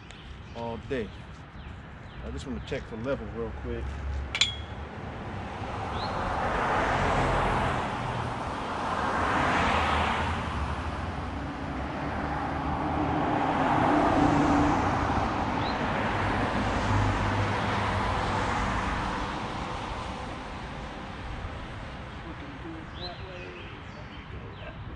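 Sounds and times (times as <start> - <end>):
cars passing by: 0.0 - 24.9.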